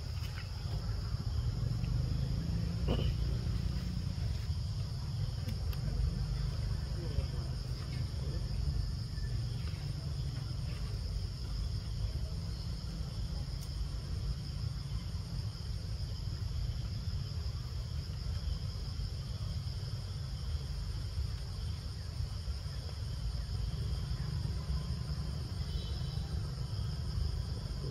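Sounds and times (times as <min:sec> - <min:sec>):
low steady rumble: 0:00.0 - 0:25.7
high-pitched insect chorus: 0:00.0 - 0:27.9.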